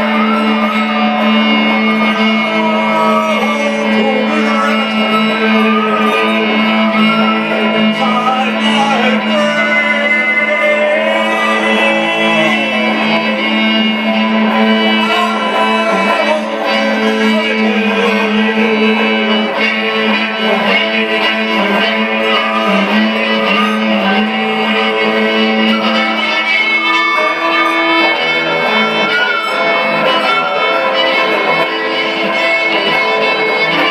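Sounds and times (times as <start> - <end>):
guitar accompaniment: 0.0 - 33.9
violin melody: 0.0 - 33.9.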